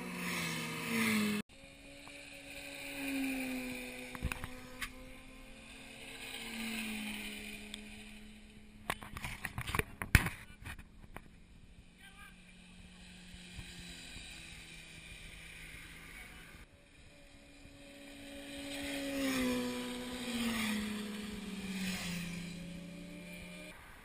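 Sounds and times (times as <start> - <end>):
motorcycle engine passing: 0.0 - 24.0.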